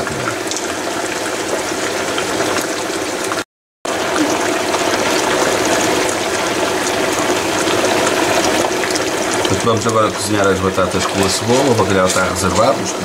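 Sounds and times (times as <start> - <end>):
oil sizzling in a frying pan: 0.2 - 13.0.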